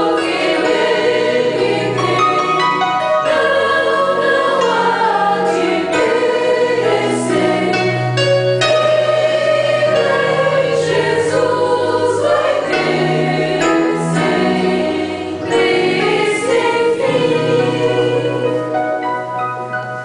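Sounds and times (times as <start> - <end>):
women's choir singing a hymn: 0.0 - 19.3.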